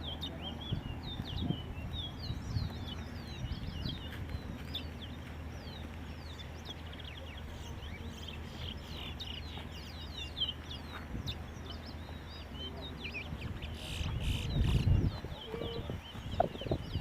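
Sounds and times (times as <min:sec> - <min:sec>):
finches chirping and whistling: 0:00.0 - 0:17.0
steady low rumble: 0:00.0 - 0:17.0.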